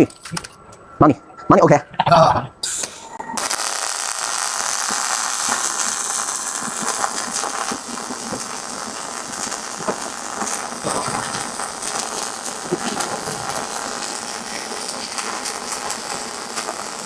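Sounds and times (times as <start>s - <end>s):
welding arc crackling and hissing: 2.6s - 17.0s.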